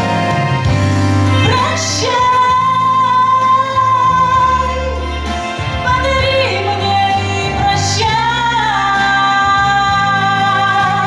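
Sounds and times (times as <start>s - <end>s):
instrumental backing with bass: 0.0s - 11.0s
woman singing: 1.2s - 11.0s.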